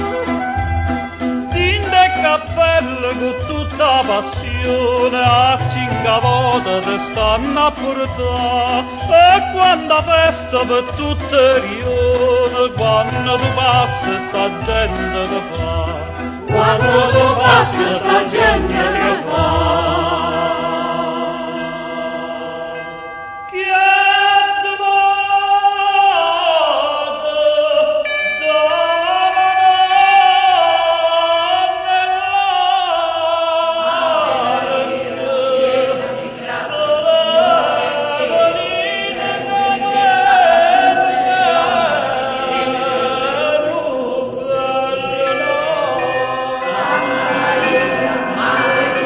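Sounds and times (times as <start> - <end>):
orchestral music with choir: 0.0 - 25.1, 28.9 - 49.0.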